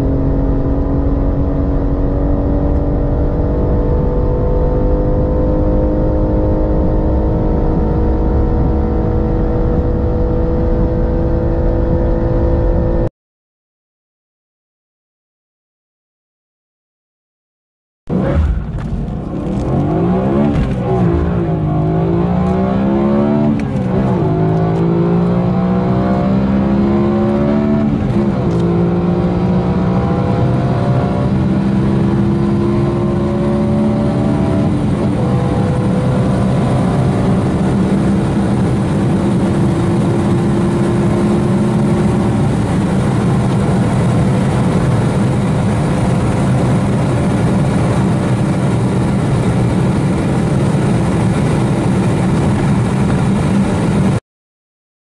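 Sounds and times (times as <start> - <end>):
car engine accelerating through gears: 0.0 - 13.1, 18.1 - 54.2.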